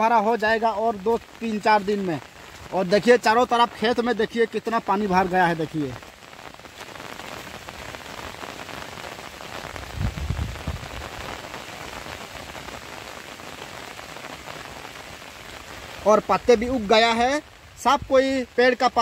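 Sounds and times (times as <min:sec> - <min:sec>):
rain falling on leaves: 0:00.0 - 0:19.0.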